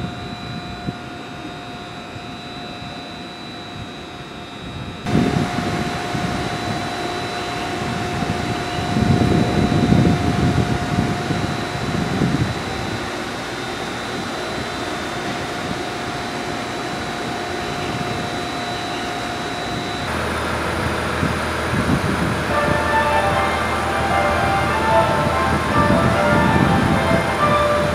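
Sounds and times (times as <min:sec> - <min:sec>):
railcar equipment humming: 0:00.0 - 0:27.9
thin high whine: 0:00.0 - 0:27.9.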